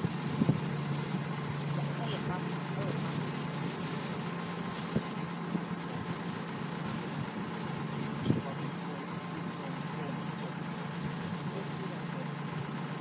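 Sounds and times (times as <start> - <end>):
field machine engine running: 0.0 - 13.0.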